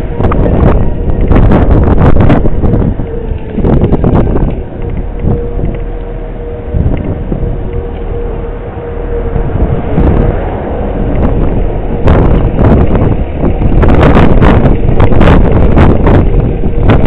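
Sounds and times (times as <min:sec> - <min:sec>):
faint tornado siren tone: 0:00.0 - 0:17.0
strong wind buffeting microphone: 0:00.0 - 0:17.0.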